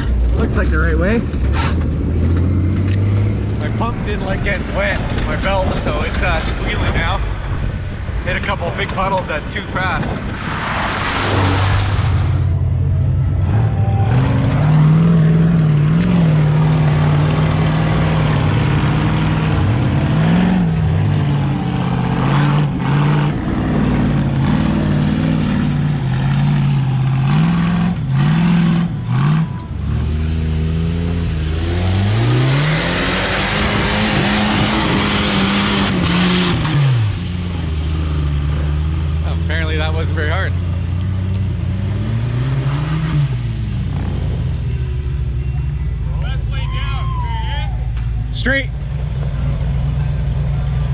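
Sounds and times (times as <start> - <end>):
engine revving under load: 0.0 - 6.7, 10.1 - 45.4.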